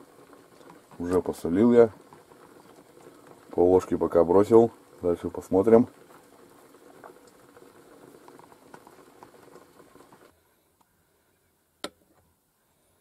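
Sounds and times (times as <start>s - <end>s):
pot bubbling with small pops: 0.0s - 10.9s.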